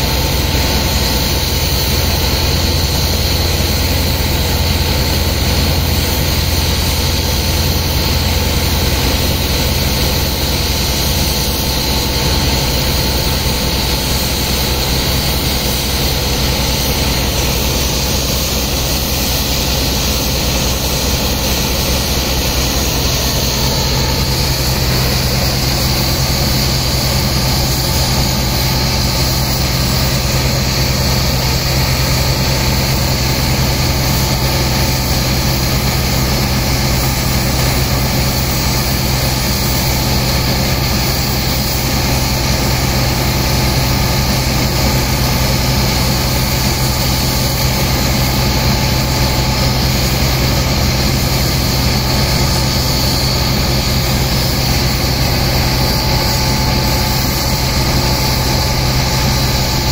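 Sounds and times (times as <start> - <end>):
high-pressure water jets hissing: 0.0 - 59.9
large engine droning: 0.0 - 59.9.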